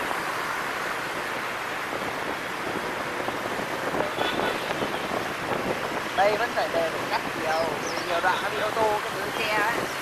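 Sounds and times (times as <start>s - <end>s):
motorbike engine and road noise: 0.0s - 10.0s
wind on microphone: 0.9s - 10.0s.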